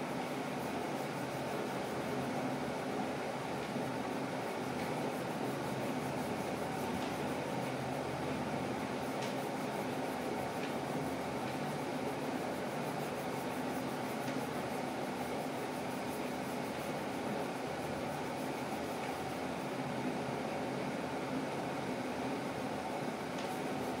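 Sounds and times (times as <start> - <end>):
fan humming and hissing: 0.0 - 24.0.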